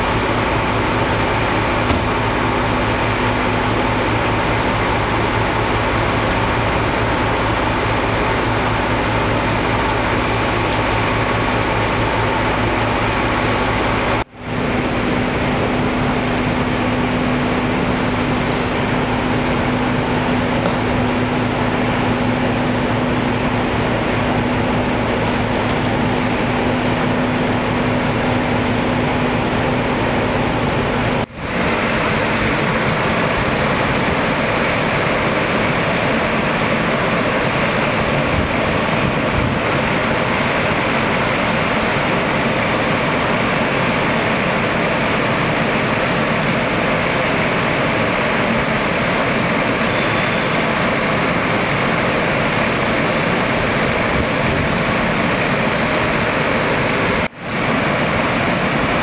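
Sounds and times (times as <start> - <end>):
machinery noise rushing hiss: 0.0 - 59.0.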